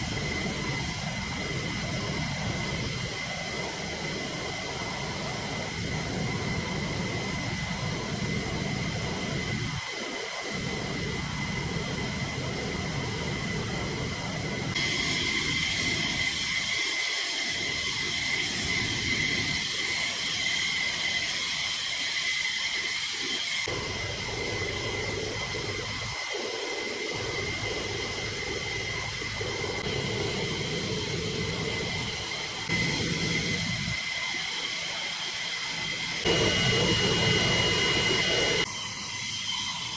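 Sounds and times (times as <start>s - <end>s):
jet engine turbine whine: 0.0s - 39.9s.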